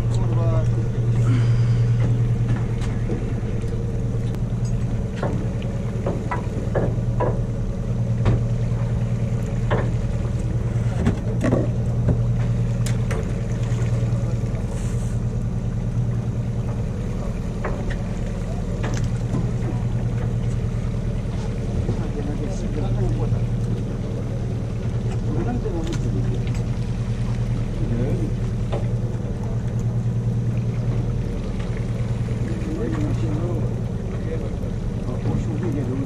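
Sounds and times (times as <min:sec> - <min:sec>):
boat engine idling: 0:00.0 - 0:36.0.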